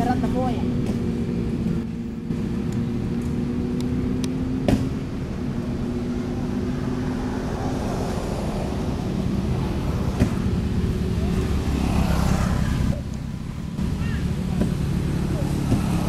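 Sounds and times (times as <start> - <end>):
engine idling hum: 0.0 - 16.0.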